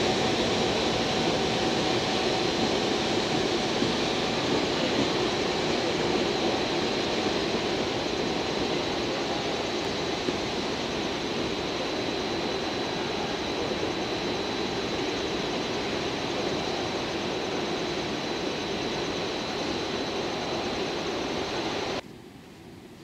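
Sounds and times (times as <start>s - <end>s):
high steady whine: 0.0s - 22.1s
locomotive rumble and hiss: 0.0s - 23.0s.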